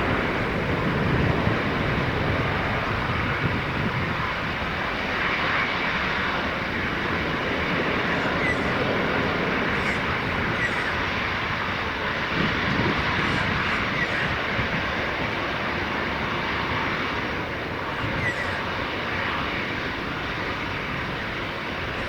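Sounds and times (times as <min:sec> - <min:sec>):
jet airliner taking off: 0:00.0 - 0:22.0.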